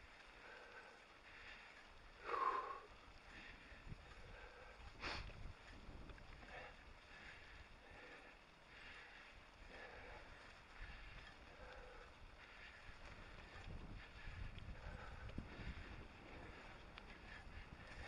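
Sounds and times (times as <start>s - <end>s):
bike rolling low rumble: 0.0s - 18.0s
faint wind rush: 0.0s - 18.0s.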